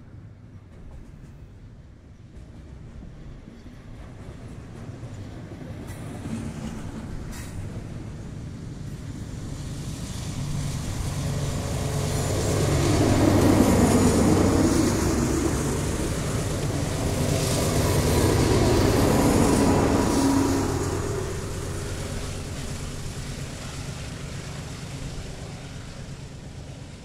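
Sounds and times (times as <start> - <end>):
diesel locomotive engines under load: 0.0 - 27.0
train wheels rumbling on rails: 0.0 - 27.0.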